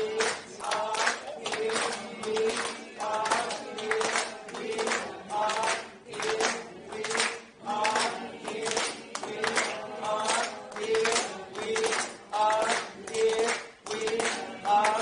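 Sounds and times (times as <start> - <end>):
rhythmic hand-clapping: 0.0 - 15.0
voices singing: 0.0 - 15.0.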